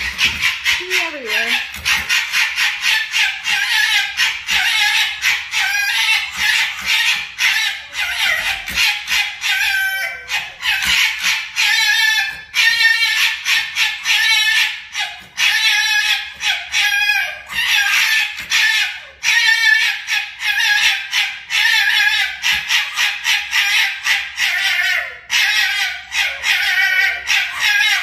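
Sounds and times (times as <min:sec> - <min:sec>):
fox gekkering chatter: 0:00.0 - 0:28.0
fox wailing cries: 0:00.0 - 0:28.0.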